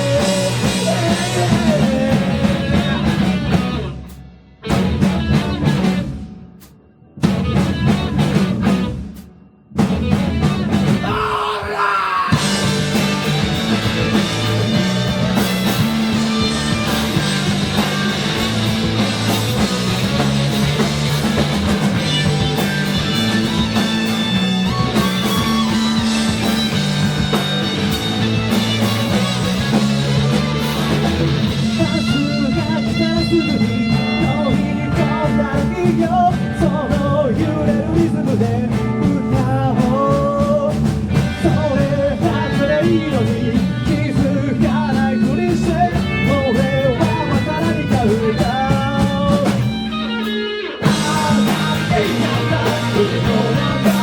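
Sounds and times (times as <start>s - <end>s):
wavering lead guitar line: 0.0s - 9.0s, 9.8s - 54.0s
live rock band playing: 0.0s - 54.0s.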